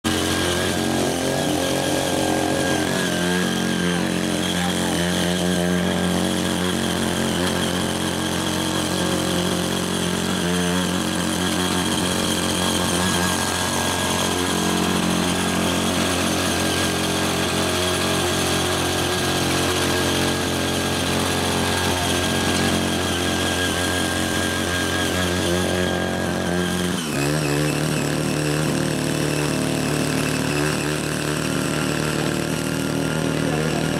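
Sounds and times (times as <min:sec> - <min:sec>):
small engine running: 0:00.0 - 0:33.9
tiller blades churning clay: 0:00.0 - 0:33.9.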